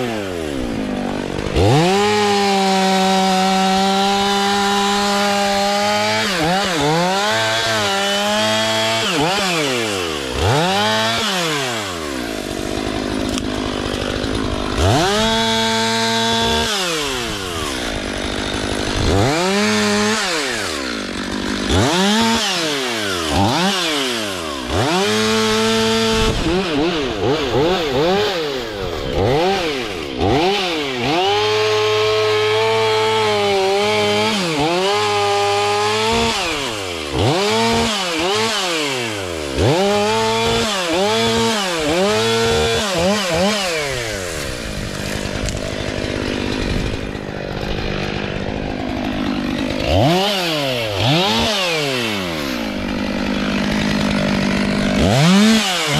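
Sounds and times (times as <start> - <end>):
chainsaw cutting wood: 0.0 - 55.9
chainsaw idling: 0.0 - 55.9
chainsaw revving: 0.0 - 55.9.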